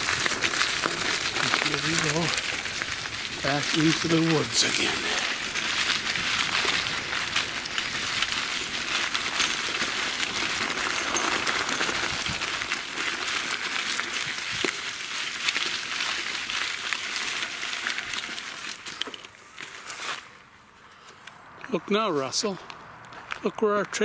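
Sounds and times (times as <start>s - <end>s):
bicycle tyres crunching leaves: 0.0s - 24.0s.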